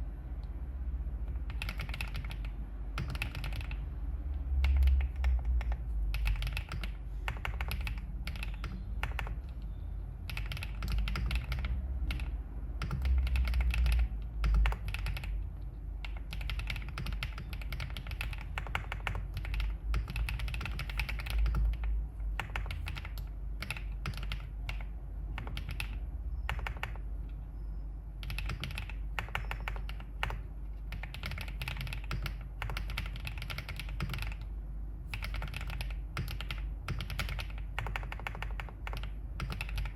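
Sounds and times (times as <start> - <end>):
mechanical keyboard typing: 1.2 - 3.9, 4.6 - 27.4, 28.2 - 39.9.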